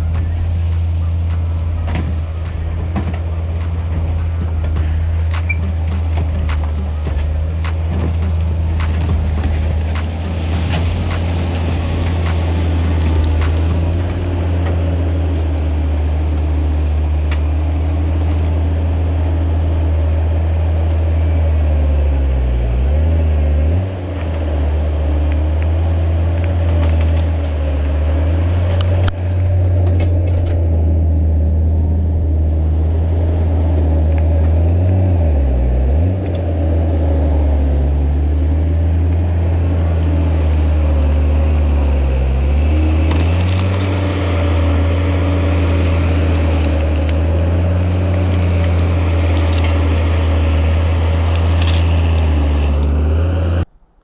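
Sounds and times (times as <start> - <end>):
heavy machinery engine under load: 0.0 - 21.6, 23.2 - 53.7.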